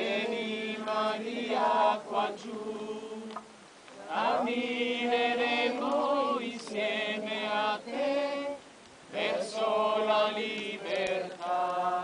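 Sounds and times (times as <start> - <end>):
voices singing religious chant: 0.0 - 12.0.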